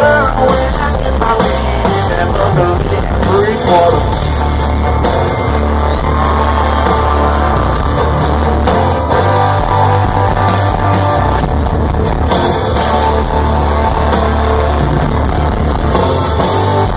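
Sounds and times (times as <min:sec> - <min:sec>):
country-rock band playing: 0:00.0 - 0:16.9.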